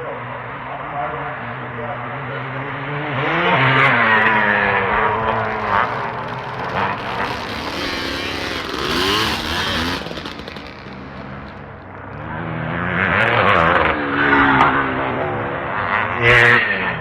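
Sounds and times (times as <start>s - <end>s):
motocross bikes revving past: 3.1s - 17.0s.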